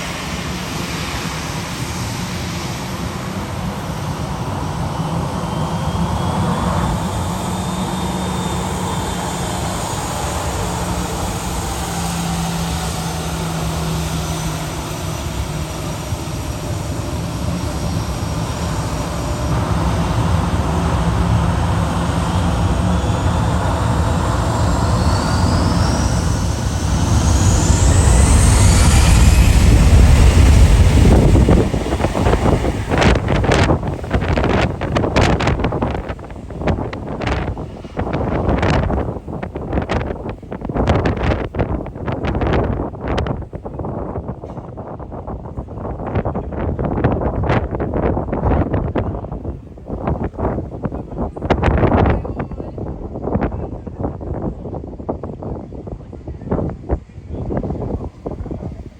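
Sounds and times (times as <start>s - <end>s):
jet engines spooling up: 0.0s - 54.3s.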